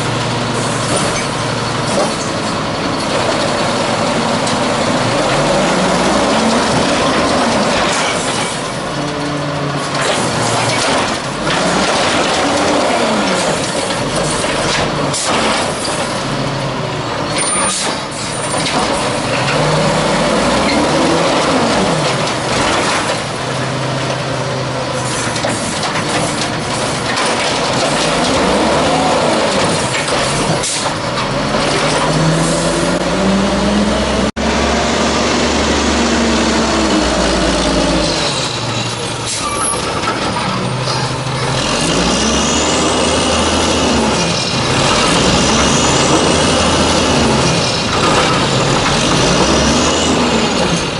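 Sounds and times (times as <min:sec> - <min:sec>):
knocks and clunks of carts: 0:00.0 - 0:33.1, 0:36.1 - 0:50.9
truck engine revving: 0:00.0 - 0:50.9.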